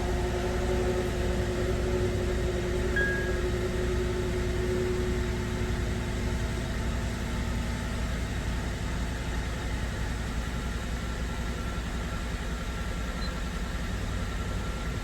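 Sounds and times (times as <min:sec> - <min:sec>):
misfiring car engine rumble: 0:00.0 - 0:15.0.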